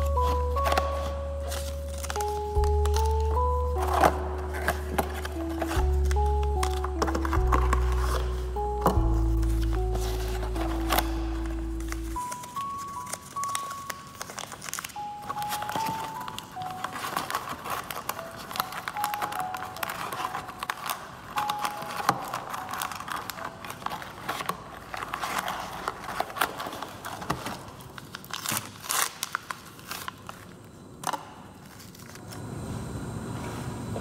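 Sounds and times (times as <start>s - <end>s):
paper and cardboard rustling: 0.0s - 30.6s.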